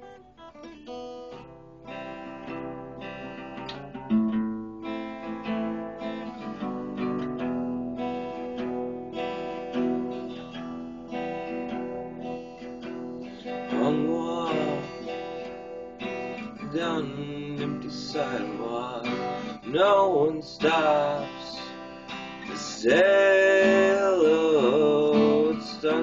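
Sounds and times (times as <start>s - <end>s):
acoustic guitar playing chords: 0.0s - 26.0s.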